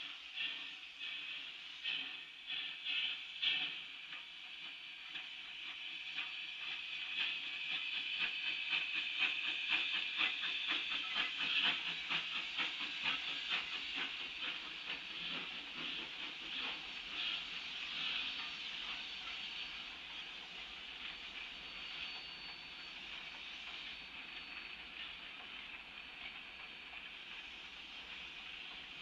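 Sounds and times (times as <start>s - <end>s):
steam hissing: 0.0s - 29.0s
train wheels clicking and knocking: 0.3s - 29.0s.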